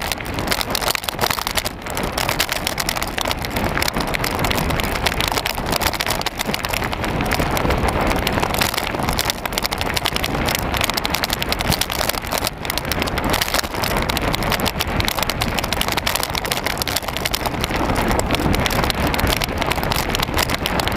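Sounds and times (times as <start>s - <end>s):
bike tyres crackling on gravel: 0.0s - 20.9s
wind buffeting microphone: 0.0s - 20.9s.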